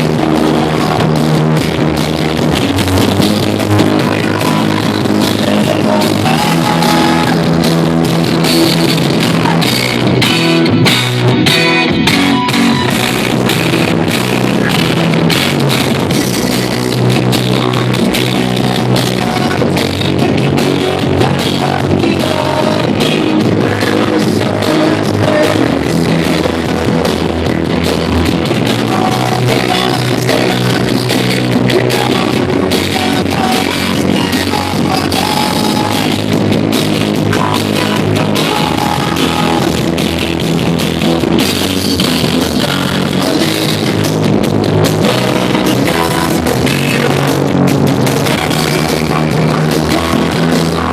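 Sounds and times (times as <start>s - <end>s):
loud dance music: 0.0s - 50.9s.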